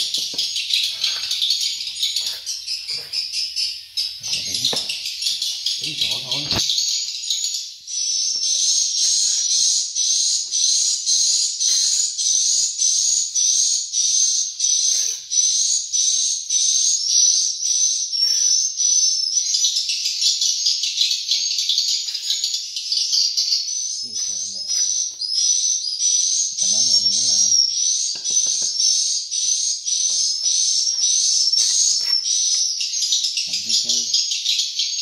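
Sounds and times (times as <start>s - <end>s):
swiftlets twittering chirps: 0.0s - 35.0s.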